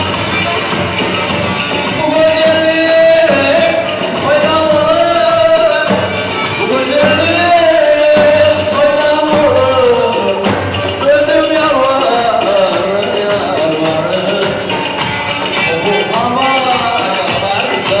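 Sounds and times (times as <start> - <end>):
bass drum beat: 0.0 - 18.0.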